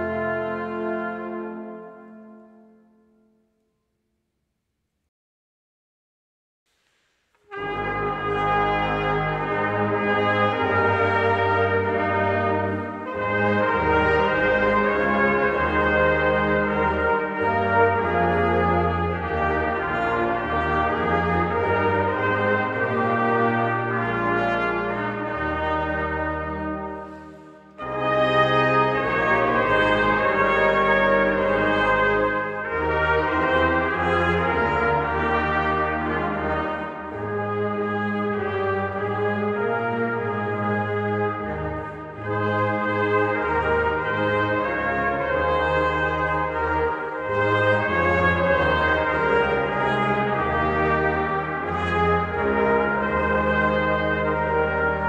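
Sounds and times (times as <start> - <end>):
brass choir playing chords: 0.0 - 3.3, 7.5 - 55.0.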